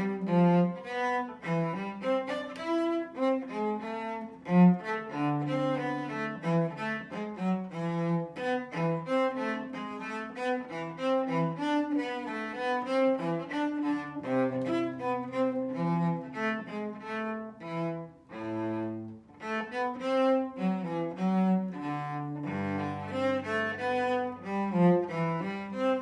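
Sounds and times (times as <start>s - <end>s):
cello bowed melody: 0.0s - 26.0s.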